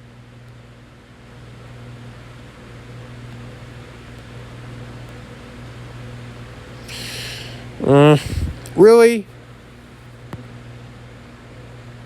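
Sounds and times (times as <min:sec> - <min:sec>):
low machine hum with hiss: 0:00.0 - 0:12.0.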